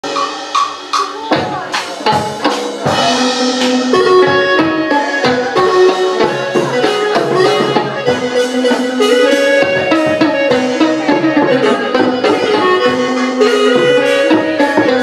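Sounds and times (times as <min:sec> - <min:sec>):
drum and percussion strikes: 0:00.0 - 0:15.0
held pitched melody line: 0:00.0 - 0:15.0.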